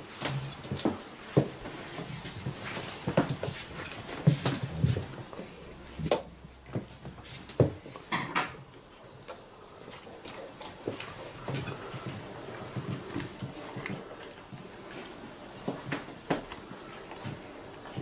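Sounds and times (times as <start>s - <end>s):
dog chewing: 1.6s - 18.0s.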